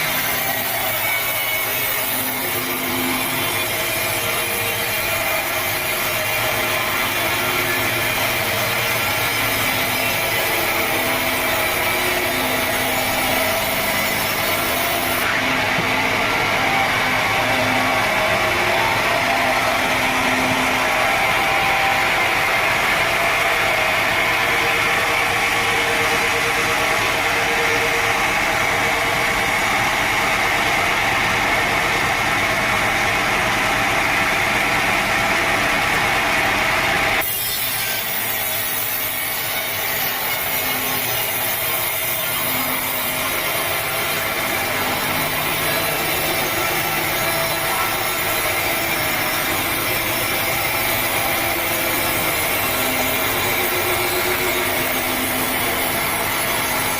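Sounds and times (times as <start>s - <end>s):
saw cutting through log: 0.0s - 56.9s.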